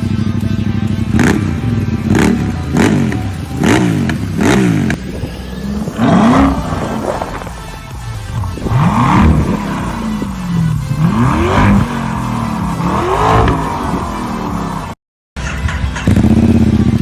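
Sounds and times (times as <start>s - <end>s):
engine throttle blips: 0.0s - 17.0s
motorcycle engine idling: 0.0s - 17.0s.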